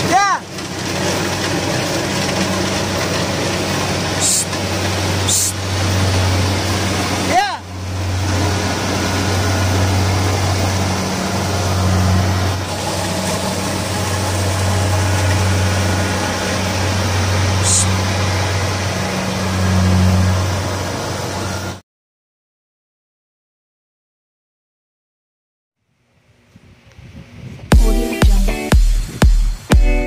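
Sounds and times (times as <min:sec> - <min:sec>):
engine humming: 0:00.0 - 0:21.8, 0:27.7 - 0:30.0.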